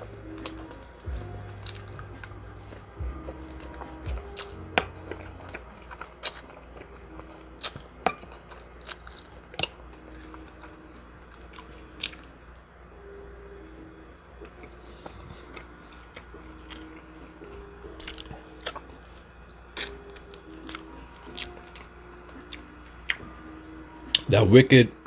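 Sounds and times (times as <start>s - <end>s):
soft instrumental beat: 0.0s - 8.8s, 9.6s - 25.0s
chewing and crunching: 0.0s - 13.0s, 14.2s - 24.3s.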